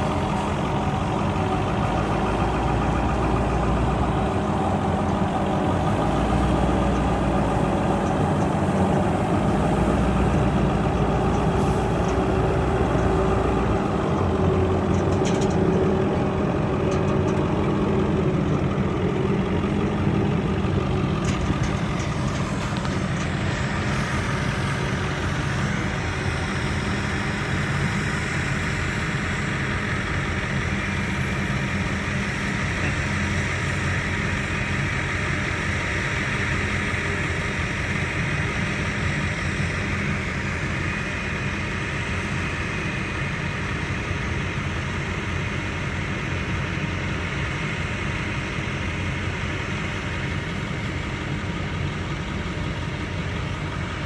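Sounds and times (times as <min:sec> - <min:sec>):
diesel farm machinery running: 0:00.0 - 0:54.0.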